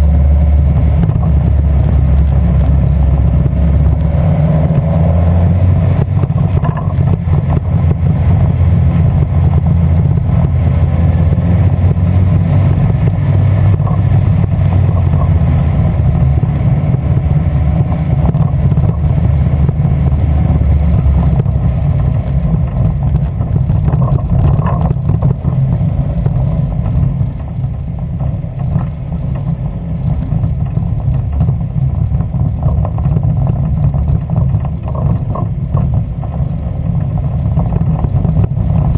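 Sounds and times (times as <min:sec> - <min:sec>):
engine running with misfire: 0:00.0 - 0:38.9.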